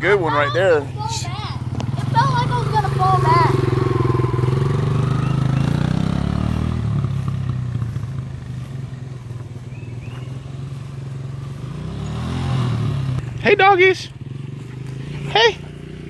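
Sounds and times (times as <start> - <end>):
dirt bike engine: 0.0 - 16.0.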